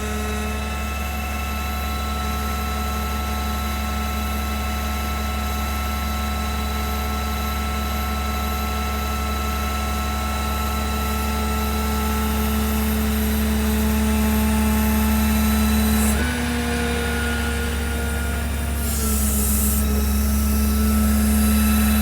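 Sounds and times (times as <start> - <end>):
engine droning steadily: 0.0 - 22.0.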